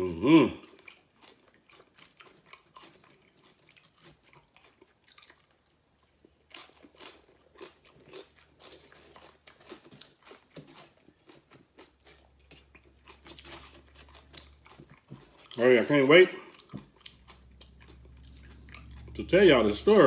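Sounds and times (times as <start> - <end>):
person chewing crunchy chips: 0.0 - 20.0.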